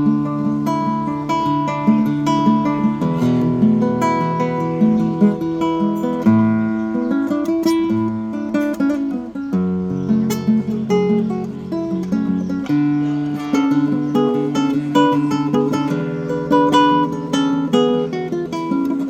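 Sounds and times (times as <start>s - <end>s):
classical guitar plucked melody: 0.0s - 19.0s.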